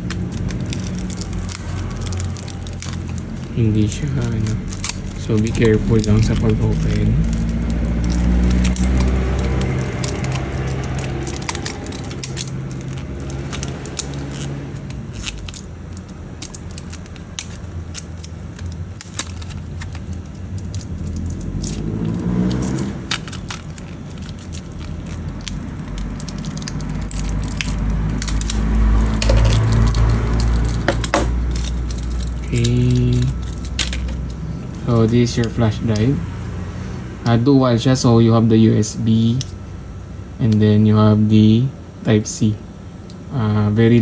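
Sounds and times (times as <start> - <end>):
plastic packaging crinkling: 0.0 - 36.2
low background hum: 0.0 - 44.0.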